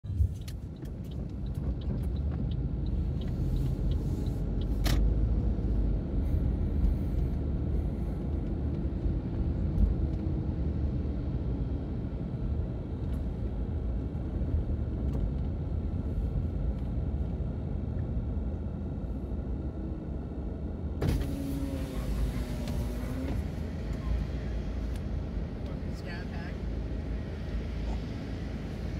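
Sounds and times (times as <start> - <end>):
engine and tyre rumble: 0.0 - 28.9.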